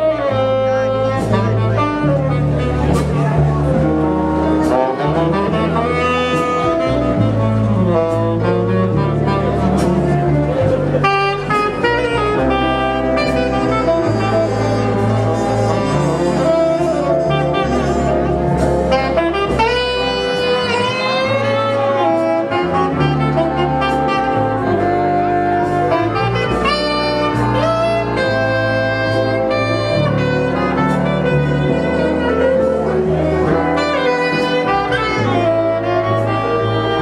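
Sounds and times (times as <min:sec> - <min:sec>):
bass line: 0:00.0 - 0:37.0
saxophone melody: 0:00.0 - 0:37.0.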